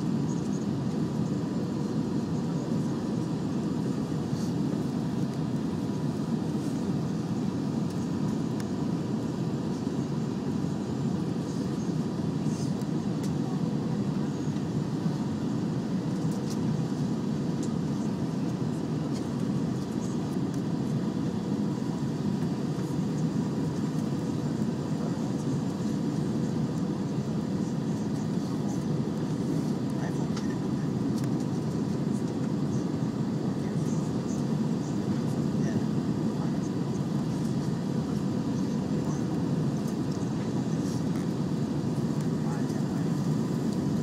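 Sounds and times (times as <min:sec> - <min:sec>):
aircraft cabin engine rumble: 0:00.0 - 0:44.0
faint steady whine: 0:00.0 - 0:44.0.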